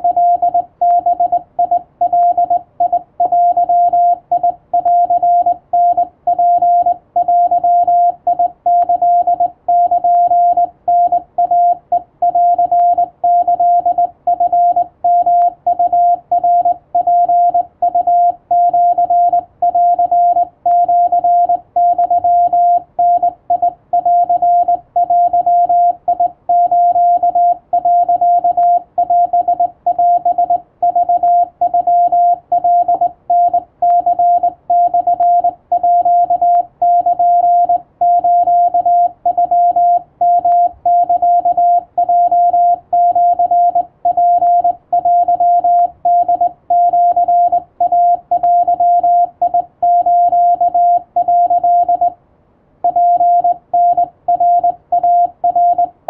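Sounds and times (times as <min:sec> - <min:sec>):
morse code tone: 0:00.0 - 0:52.2, 0:52.9 - 0:56.0.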